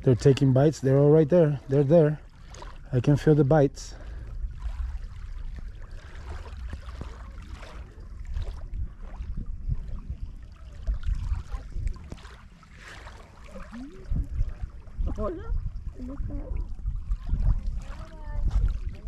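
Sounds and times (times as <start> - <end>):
lake water lapping: 0.0 - 19.0
wind buffeting microphone: 0.0 - 19.0.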